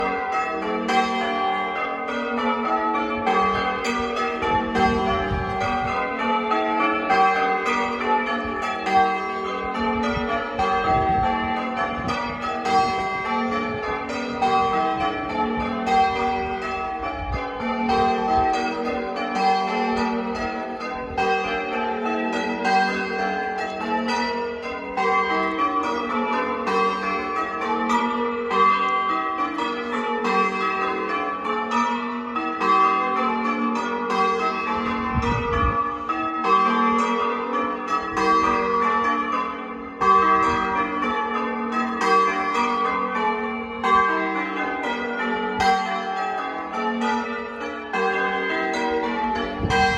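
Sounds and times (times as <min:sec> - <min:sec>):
church bells ringing in sequence: 0:00.0 - 0:49.9.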